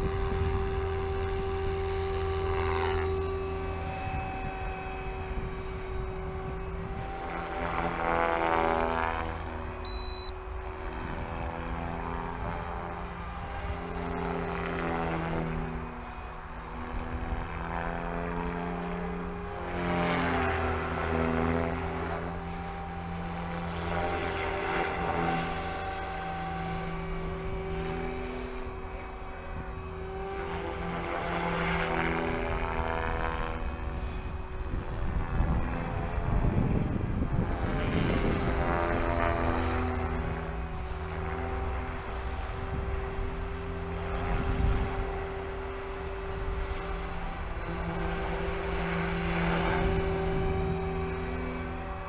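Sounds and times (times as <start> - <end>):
rc helicopter rotor hum: 0.0 - 52.0.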